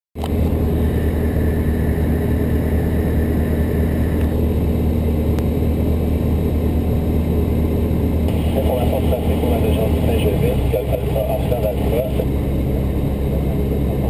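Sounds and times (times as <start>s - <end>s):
aircraft engine and propeller drone: 0.2s - 14.0s.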